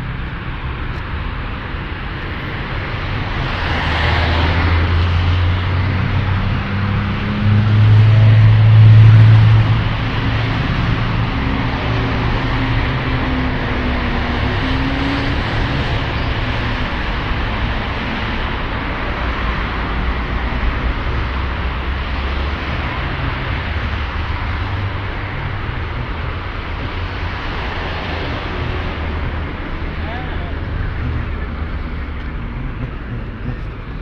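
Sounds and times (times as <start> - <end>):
city road traffic: 0.0 - 34.0.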